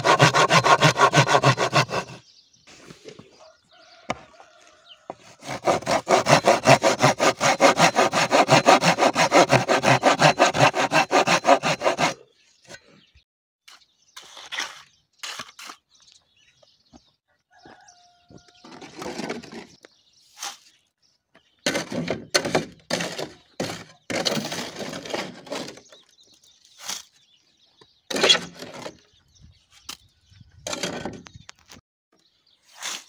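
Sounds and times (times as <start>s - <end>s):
gritty scraping of stony soil: 0.0s - 16.6s, 17.8s - 31.8s, 32.4s - 33.0s.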